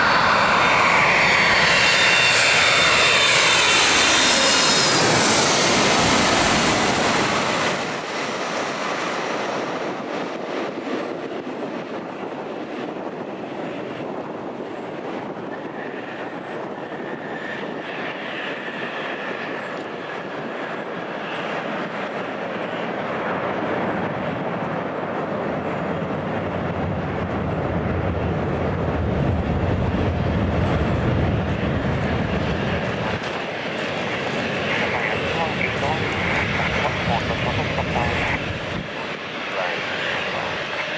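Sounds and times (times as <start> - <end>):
jet airliner passing overhead: 0.0 - 40.9.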